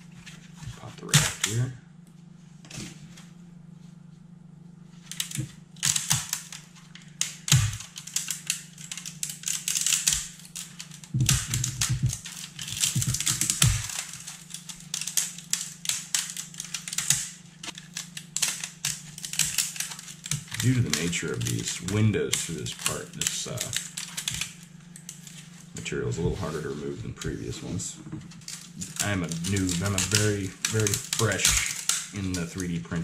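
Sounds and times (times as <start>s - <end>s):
plastic crackling and snapping: 0.2s - 1.7s, 5.0s - 25.9s, 26.5s - 33.0s.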